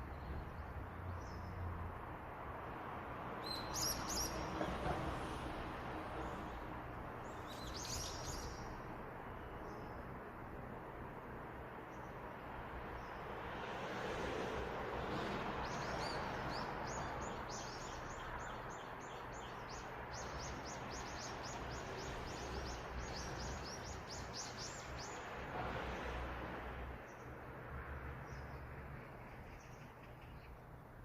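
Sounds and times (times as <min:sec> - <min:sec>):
outdoor background noise: 0:00.0 - 0:31.0.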